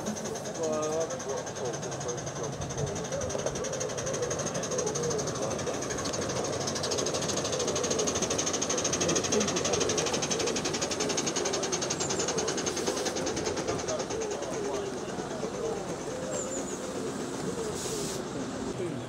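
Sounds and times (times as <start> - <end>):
model train clicking on track: 0.0 - 19.0.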